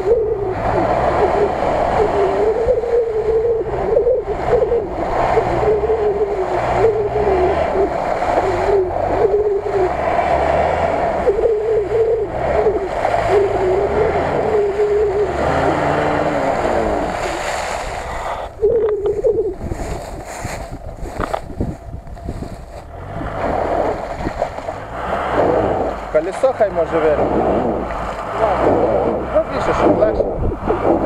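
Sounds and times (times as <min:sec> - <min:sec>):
engine revving unevenly: 0:00.0 - 0:31.0
wheels churning through mud: 0:00.0 - 0:31.0.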